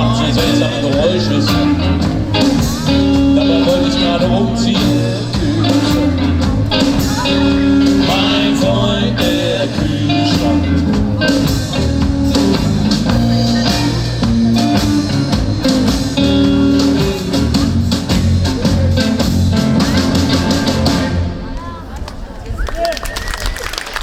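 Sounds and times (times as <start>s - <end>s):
live rock blues band: 0.0s - 21.5s.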